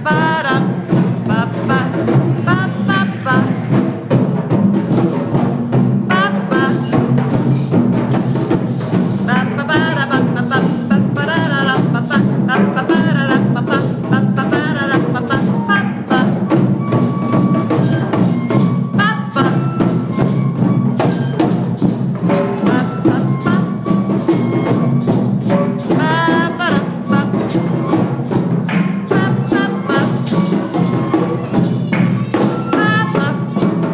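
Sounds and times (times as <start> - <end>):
group playing drums and percussion: 0.0 - 33.9.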